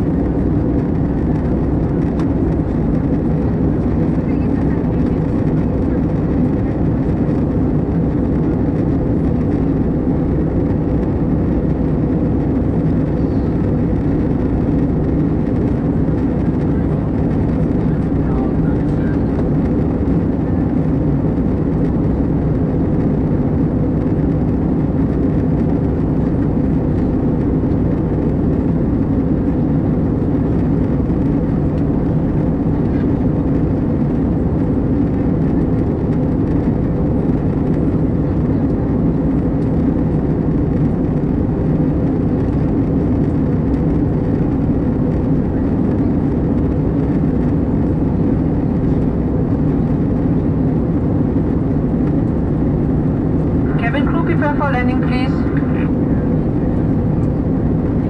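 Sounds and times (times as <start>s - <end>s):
airplane cabin engine noise: 0.0s - 58.0s
steady hum: 0.0s - 58.0s.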